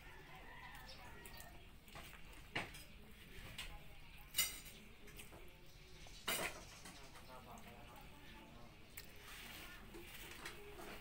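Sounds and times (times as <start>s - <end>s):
people eating: 0.0s - 11.0s.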